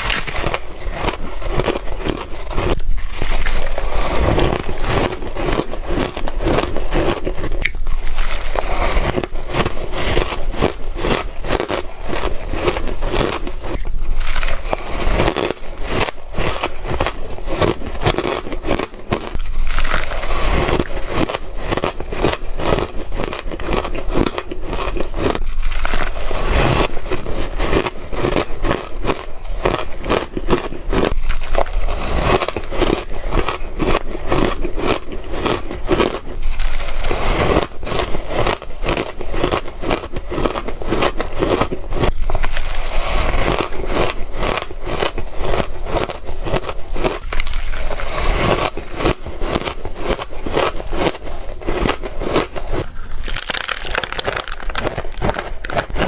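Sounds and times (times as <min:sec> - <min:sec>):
ice being crunched and chewed: 0:00.0 - 0:56.0.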